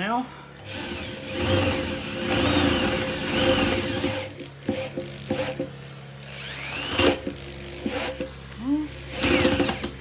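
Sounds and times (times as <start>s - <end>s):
electric drill boring metal: 0.6s - 8.3s, 8.9s - 10.0s.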